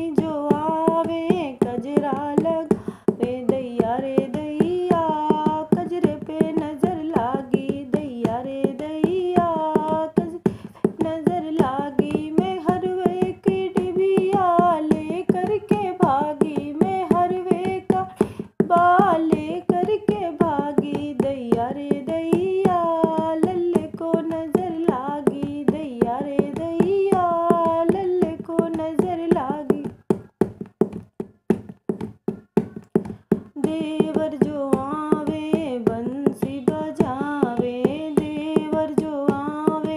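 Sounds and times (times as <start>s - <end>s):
woman singing folk song: 0.0s - 30.2s, 32.8s - 39.9s
quick dholak drum beat: 0.0s - 39.9s.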